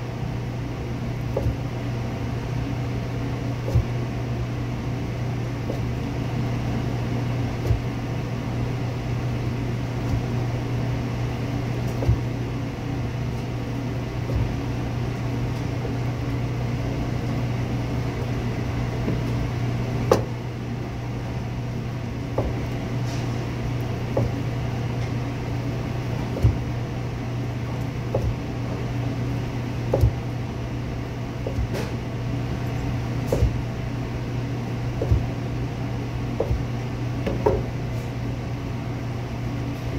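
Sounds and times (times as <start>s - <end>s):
kitchen equipment hum: 0.0s - 39.9s.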